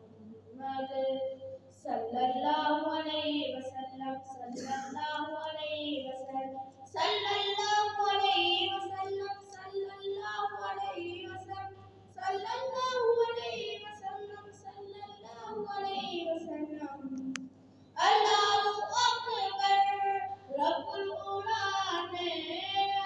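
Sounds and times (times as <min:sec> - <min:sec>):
boy singing devotional song: 0:00.0 - 0:17.4, 0:18.0 - 0:23.0.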